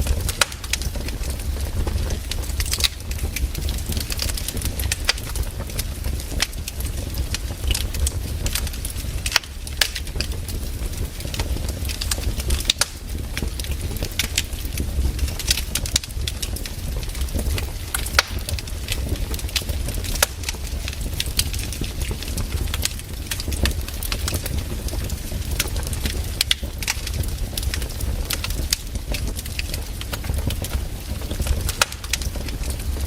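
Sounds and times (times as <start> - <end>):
fire low rumble: 0.0 - 33.0
firewood crackling and popping: 0.0 - 33.0.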